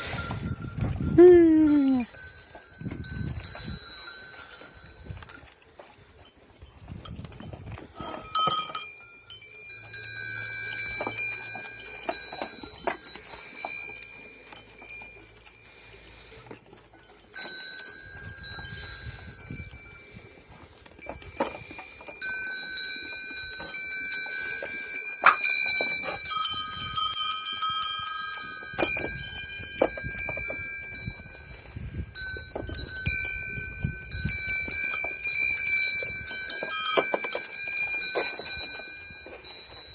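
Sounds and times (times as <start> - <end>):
goat bells clanking: 0.0 - 39.9.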